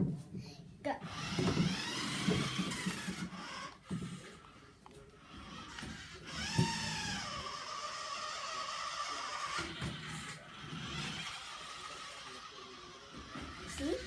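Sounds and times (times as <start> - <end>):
toy car electric motor whining: 1.0 - 14.0.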